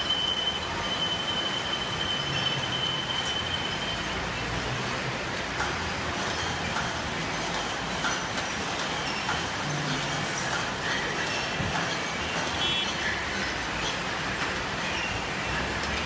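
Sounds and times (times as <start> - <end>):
machinery noise: 0.0 - 16.0.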